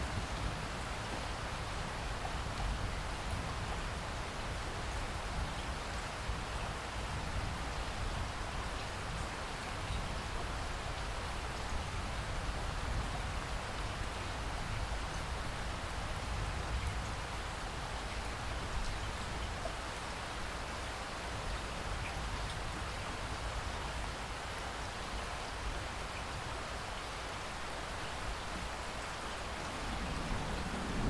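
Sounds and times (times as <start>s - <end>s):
steady rain hiss: 0.0s - 31.0s.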